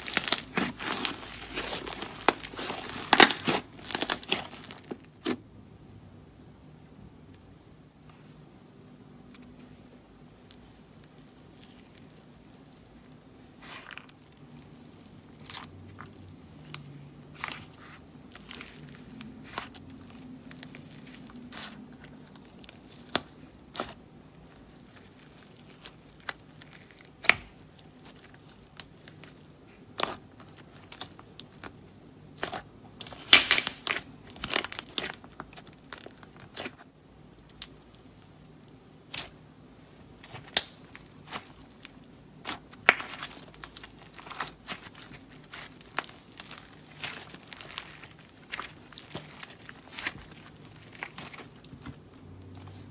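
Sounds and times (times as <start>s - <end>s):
slime crackling and popping: 0.0s - 5.4s, 10.4s - 52.8s.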